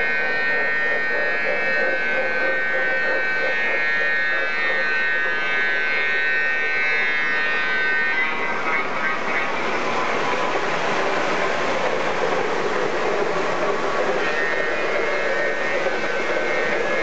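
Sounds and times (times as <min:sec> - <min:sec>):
high steady whine: 0:00.0 - 0:17.0.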